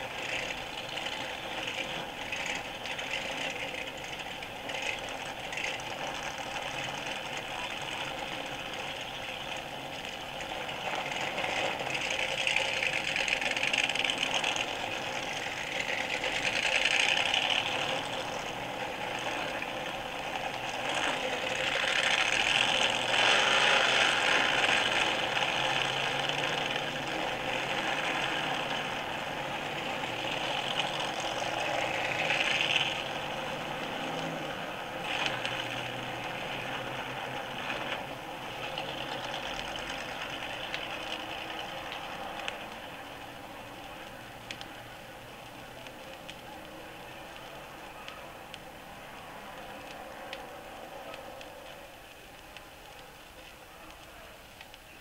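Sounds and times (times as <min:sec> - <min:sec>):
race car engines passing: 0:00.0 - 0:54.3.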